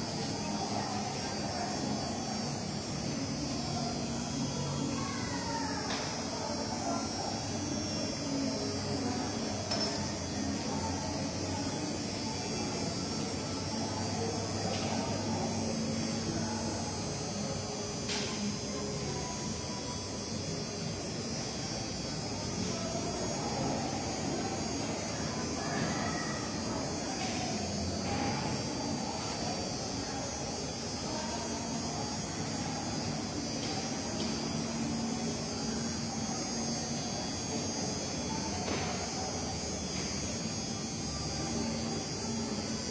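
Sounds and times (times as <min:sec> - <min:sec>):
constant drone: 0:00.0 - 0:42.9
indoor hall hum and hiss: 0:00.0 - 0:42.9
low electrical hum: 0:00.0 - 0:42.9.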